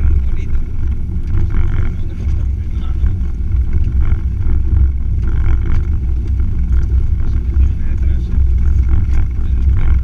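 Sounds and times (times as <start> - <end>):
off-road vehicle engine rumble: 0.0 - 10.0.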